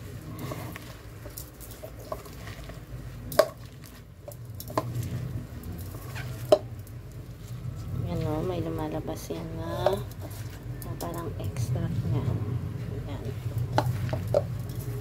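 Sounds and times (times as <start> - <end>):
wet squishing of kneaded food: 0.0 - 15.0.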